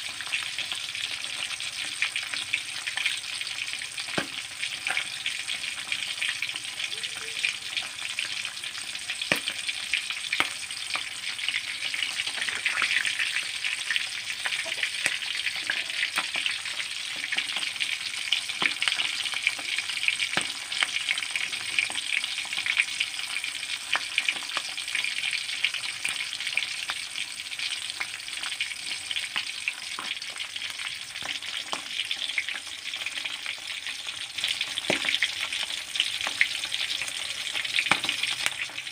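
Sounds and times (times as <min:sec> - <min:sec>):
fish frying in oil: 0:00.0 - 0:38.9.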